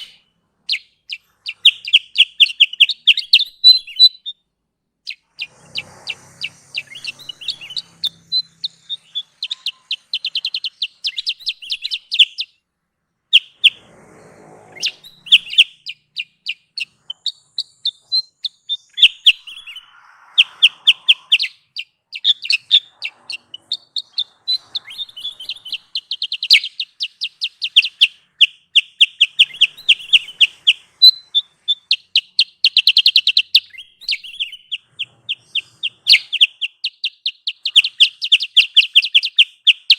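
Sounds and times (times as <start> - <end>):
songbird chattering trills: 0.0 - 4.4, 5.1 - 12.6, 13.3 - 39.9.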